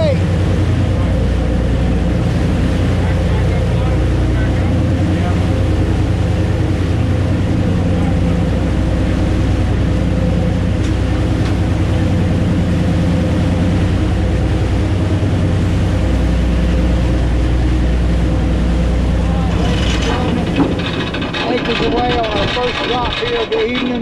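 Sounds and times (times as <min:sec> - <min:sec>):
boat engines droning: 0:00.0 - 0:24.0
wind and water noise: 0:00.0 - 0:24.0.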